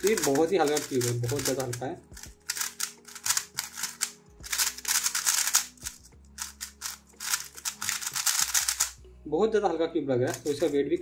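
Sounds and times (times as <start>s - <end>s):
puzzle cube turning clicks: 0.0s - 9.0s.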